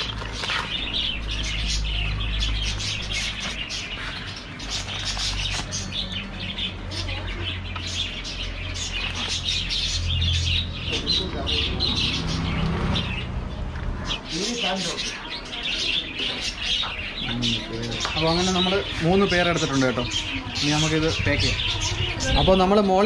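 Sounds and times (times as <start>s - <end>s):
many small birds chirping: 0.0s - 23.0s.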